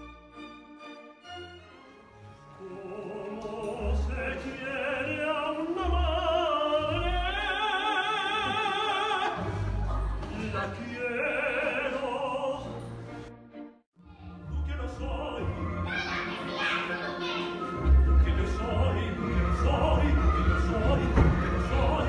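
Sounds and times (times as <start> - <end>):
operatic singing with vibrato: 2.2 - 13.2, 14.2 - 22.0.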